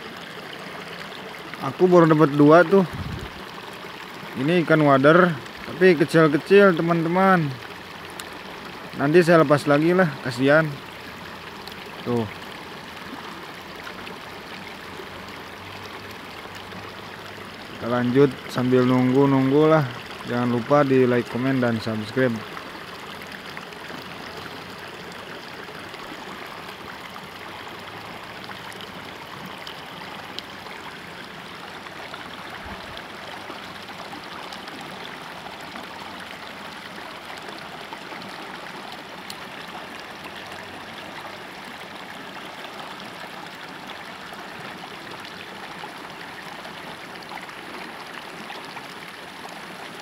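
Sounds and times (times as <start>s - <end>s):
river water flowing: 0.0s - 50.0s.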